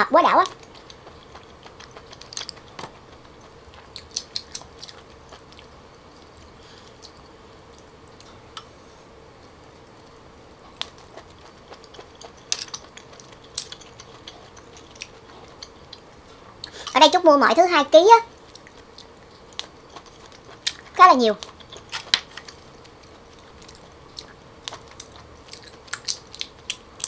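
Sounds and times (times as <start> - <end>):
quiet chewing: 0.4 - 8.8, 9.4 - 17.0, 18.4 - 27.0.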